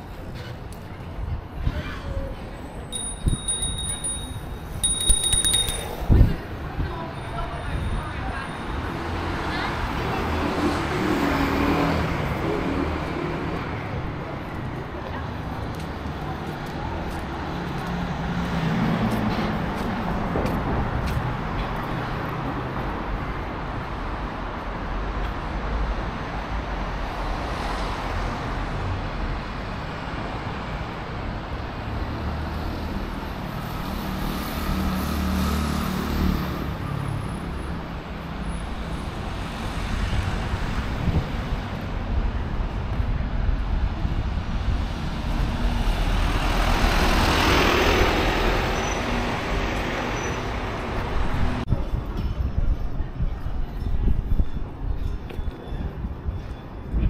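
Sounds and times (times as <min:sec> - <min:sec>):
vehicles passing: 0:00.0 - 0:53.2.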